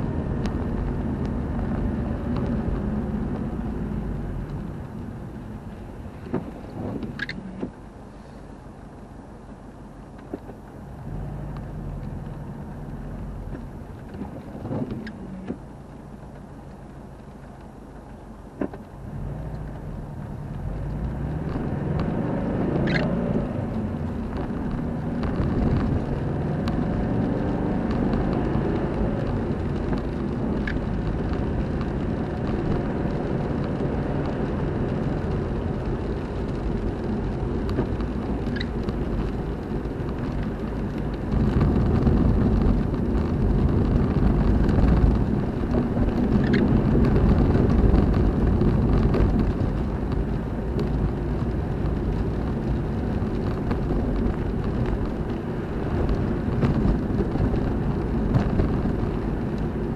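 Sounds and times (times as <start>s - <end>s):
car driving on wet road: 0.0s - 59.9s
car engine rumble: 0.0s - 59.9s
windscreen wiper ticking: 0.0s - 59.9s.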